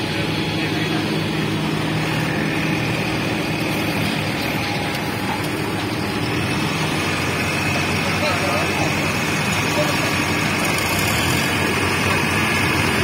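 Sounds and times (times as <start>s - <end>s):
heavy diesel engines running: 0.0s - 13.0s.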